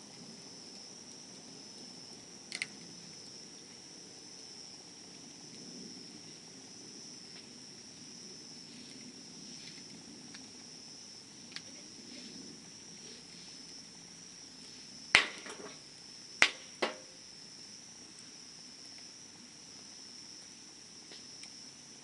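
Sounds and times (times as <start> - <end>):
campfire crackling: 0.0 - 22.0
insect trill: 0.0 - 22.0.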